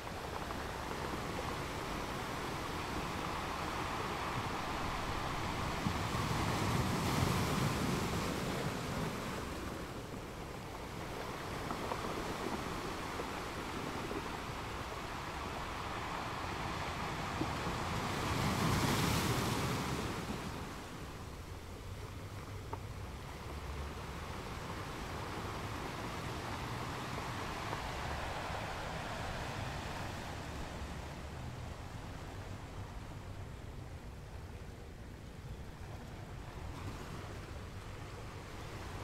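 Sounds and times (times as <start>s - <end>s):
sea waves surf: 0.0s - 39.0s.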